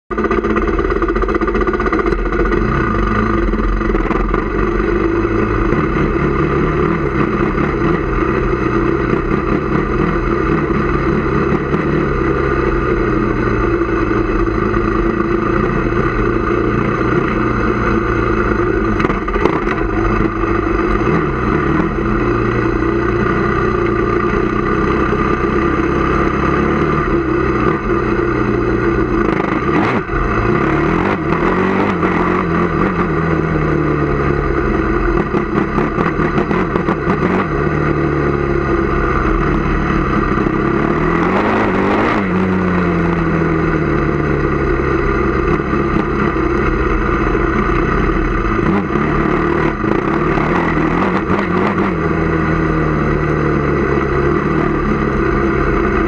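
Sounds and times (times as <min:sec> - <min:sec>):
quad engine revving: 0:00.1 - 0:56.0.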